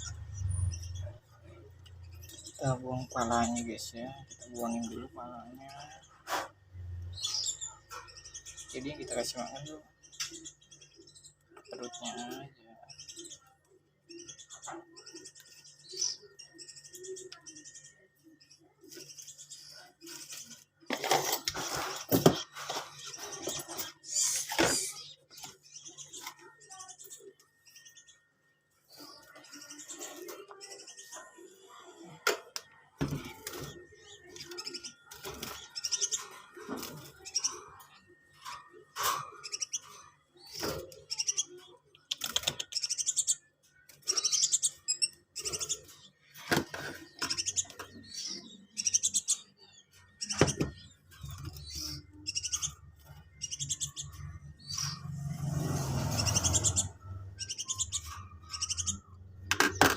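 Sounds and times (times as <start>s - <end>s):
nestling birds begging chirps: 0.0s - 59.9s.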